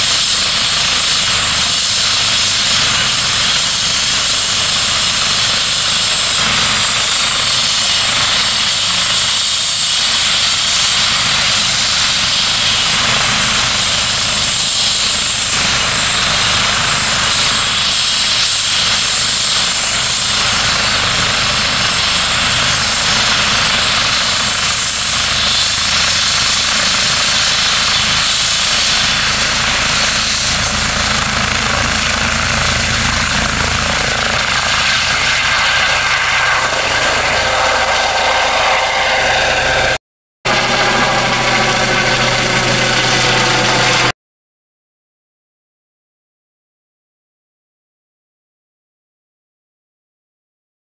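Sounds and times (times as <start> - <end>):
helicopter rotor noise: 0.0 - 44.2
helicopter turbine whine: 0.0 - 44.2.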